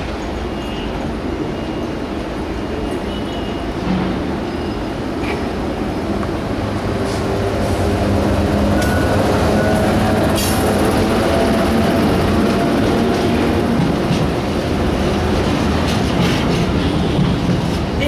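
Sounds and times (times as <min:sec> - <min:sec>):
electric locomotive passing: 0:00.0 - 0:18.0
train wheels rumbling on rails: 0:00.0 - 0:18.0.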